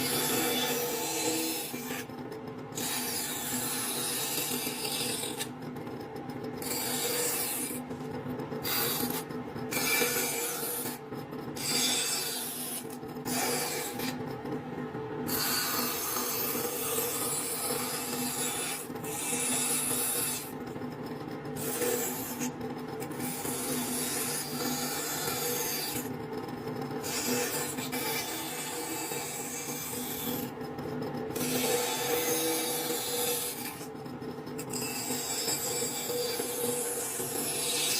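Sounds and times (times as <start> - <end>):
band saw cutting wood: 0.0 - 2.1, 2.7 - 5.6, 6.6 - 7.9, 8.6 - 11.0, 11.6 - 14.3, 15.3 - 20.7, 21.5 - 26.1, 27.0 - 30.6, 31.3 - 34.0, 34.6 - 37.9
band saw motor hum: 0.0 - 37.9.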